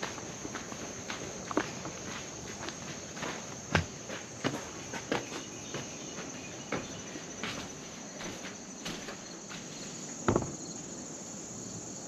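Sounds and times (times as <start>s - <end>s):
footsteps on forest trail: 0.0s - 10.8s
insects chorus: 0.0s - 12.0s.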